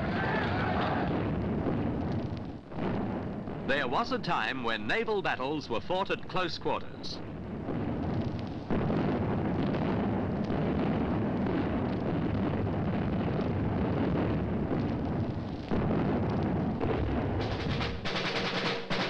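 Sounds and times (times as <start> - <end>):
gunfire and explosions: 0.0 - 19.0.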